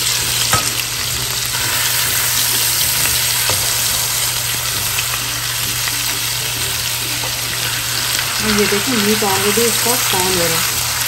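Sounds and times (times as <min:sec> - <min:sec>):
steaks sizzling in oil: 0:00.0 - 0:11.0.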